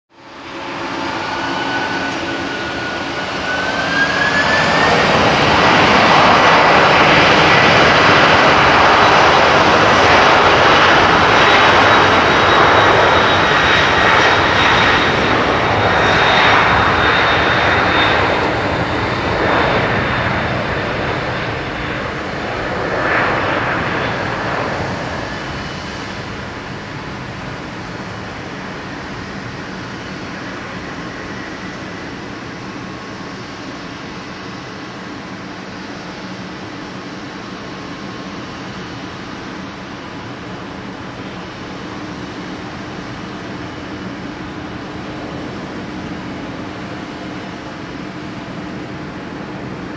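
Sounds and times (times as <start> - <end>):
jet engines spooling up and roaring: 0.1 - 49.9.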